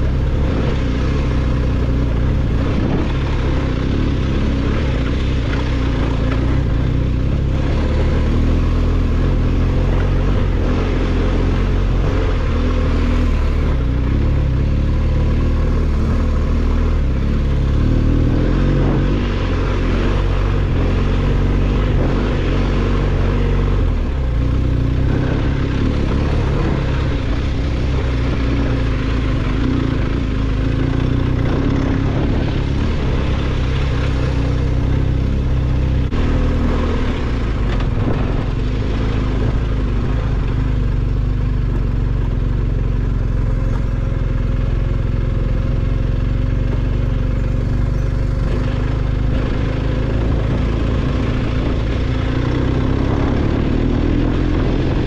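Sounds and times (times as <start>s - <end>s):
steady rush of noise: 0.0s - 45.5s
motorcycle engine running: 0.0s - 55.0s.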